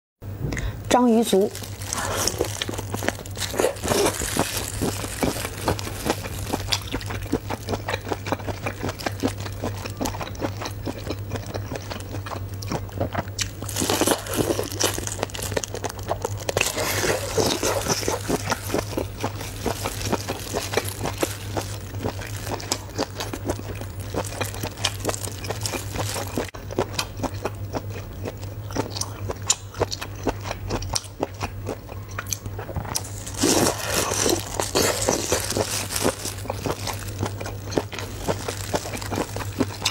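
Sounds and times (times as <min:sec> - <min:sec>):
steady low hum: 0:00.2 - 0:39.9
crunching and chewing mouth sounds: 0:01.5 - 0:39.9.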